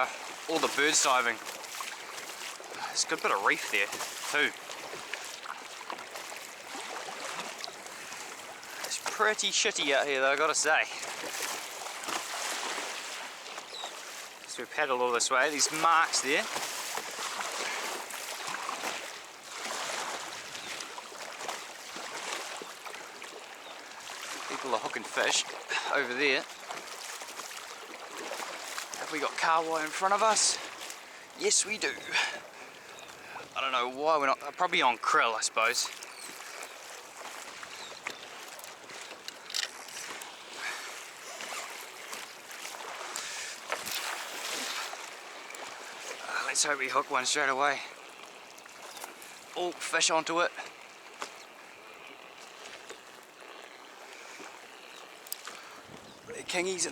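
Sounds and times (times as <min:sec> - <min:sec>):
water splashing against kayak hull: 0:00.0 - 0:56.9.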